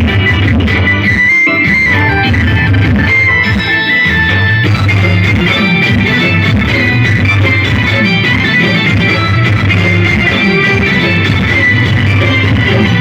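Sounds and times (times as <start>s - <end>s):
loud instrumental music with bass: 0.0s - 13.0s.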